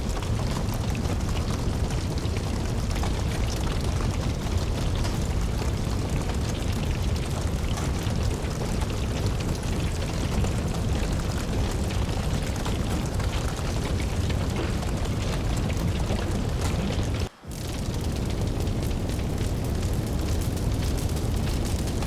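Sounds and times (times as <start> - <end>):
rain hissing: 0.0 - 22.0
wood fire crackling: 0.0 - 22.0.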